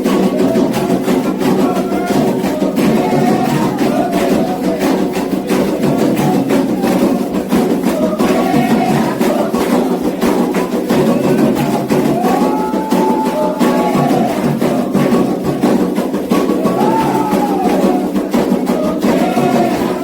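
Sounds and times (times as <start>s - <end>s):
chanted singing: 0.0s - 20.0s
hand drums: 0.0s - 20.0s.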